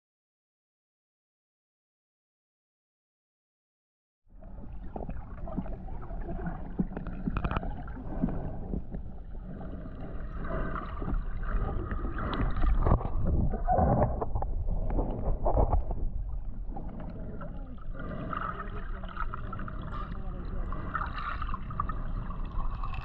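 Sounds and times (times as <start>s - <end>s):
muffled underwater rumble: 4.3s - 23.0s.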